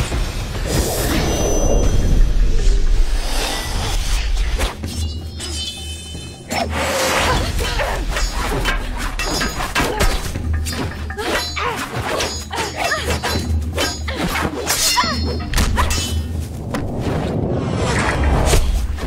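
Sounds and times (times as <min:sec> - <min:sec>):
film music score: 0:00.0 - 0:19.0.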